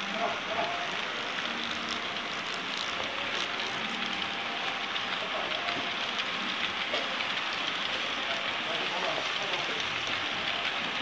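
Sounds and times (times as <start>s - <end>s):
model train wheels rattling on track: 0.0s - 11.0s.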